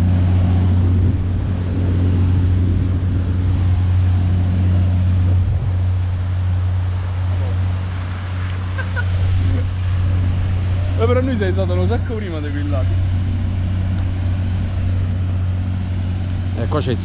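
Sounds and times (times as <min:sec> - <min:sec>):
motorboat engine droning: 0:00.0 - 0:17.0
wind noise on microphone: 0:00.0 - 0:17.0.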